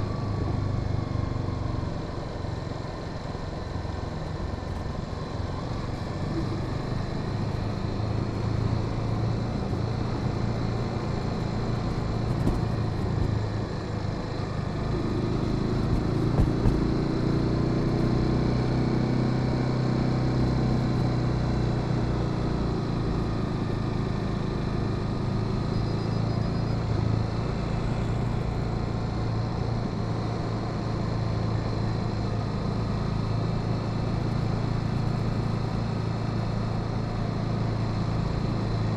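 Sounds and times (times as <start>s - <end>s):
motorcycle engine running: 0.1s - 38.9s.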